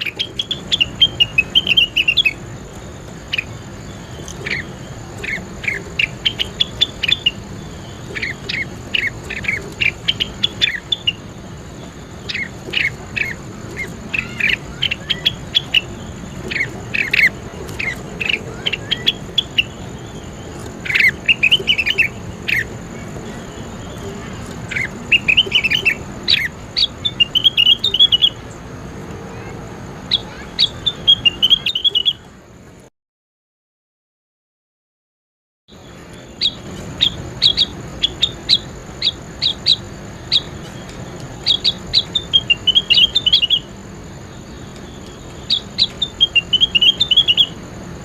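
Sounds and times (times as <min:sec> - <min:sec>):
bird chirping and warbling: 0:00.0 - 0:32.4, 0:35.7 - 0:48.0
faint high whine: 0:00.0 - 0:32.8, 0:35.7 - 0:48.0.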